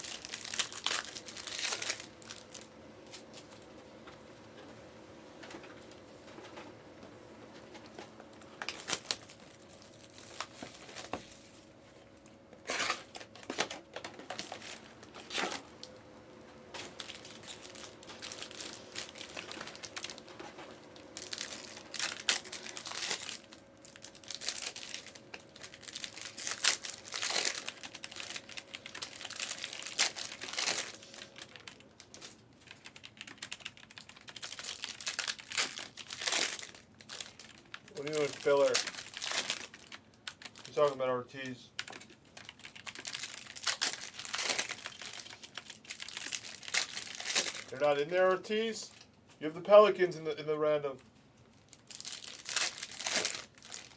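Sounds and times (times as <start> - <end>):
wrappers crinkling and tearing: 0.0 - 3.7, 8.6 - 11.7, 12.6 - 16.0, 16.7 - 49.1, 51.5 - 53.9
faint steady hum: 0.0 - 53.9.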